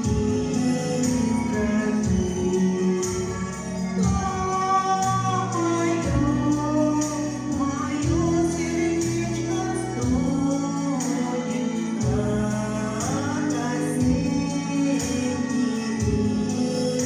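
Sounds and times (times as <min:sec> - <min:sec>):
instrumental accompaniment: 0:00.0 - 0:17.0
person singing slow song: 0:00.0 - 0:17.0.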